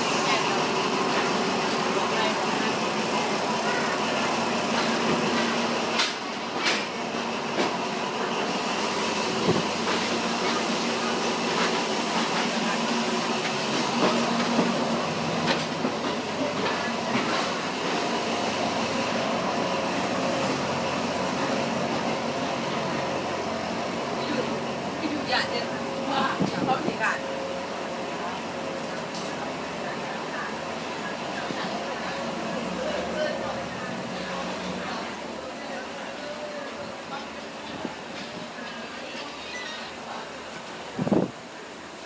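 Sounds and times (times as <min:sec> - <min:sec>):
train rumbling on rails: 0:00.0 - 0:42.0.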